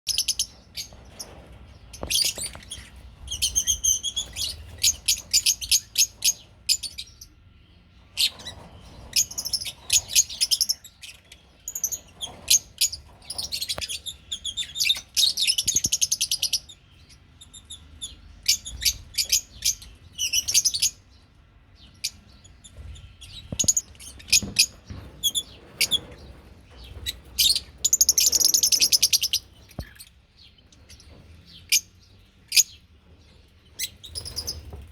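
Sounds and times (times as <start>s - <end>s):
lovebirds chirping: 0.1s - 34.9s.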